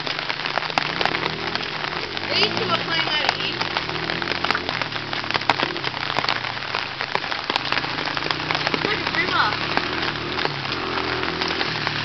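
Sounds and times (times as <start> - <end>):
distant dirt bike engine: 0.0 - 12.0
heavy rain falling: 0.0 - 12.0.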